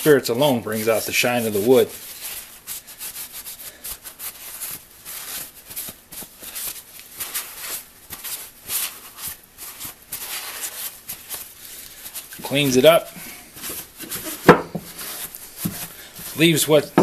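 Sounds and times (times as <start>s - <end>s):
paper towel rubbing wood: 0.0s - 17.0s.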